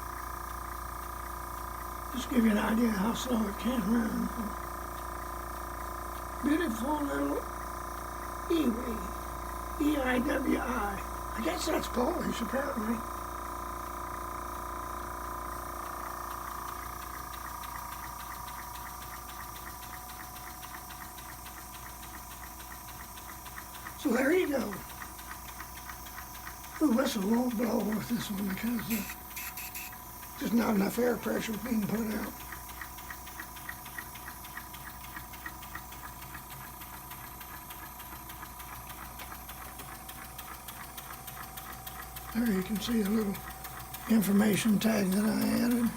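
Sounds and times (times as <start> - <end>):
air compressor humming: 0.0 - 45.9
model steam engine ticking: 0.0 - 45.9.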